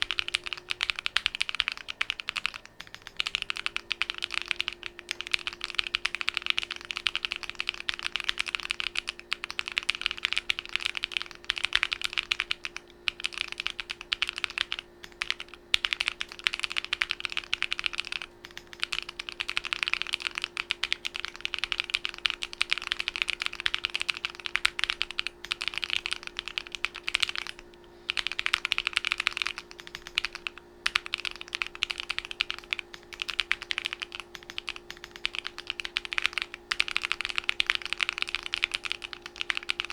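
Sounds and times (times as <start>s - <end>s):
mechanical keyboard key clicks: 0.0s - 39.9s
steady low hum: 0.0s - 39.9s.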